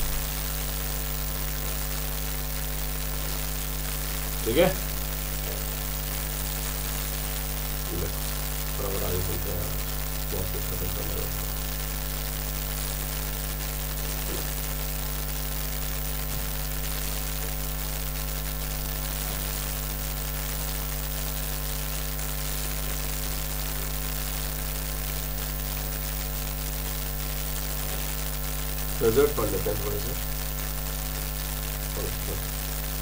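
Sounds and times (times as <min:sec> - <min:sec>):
electrical mains hum: 0:00.0 - 0:26.4, 0:27.4 - 0:33.0
constant hiss: 0:00.0 - 0:33.0.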